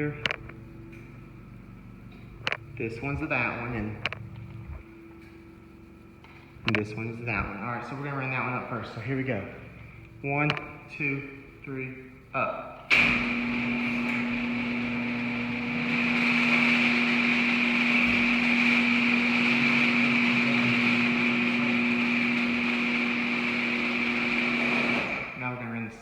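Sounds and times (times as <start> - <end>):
garage door opener motor: 0.0 - 26.0.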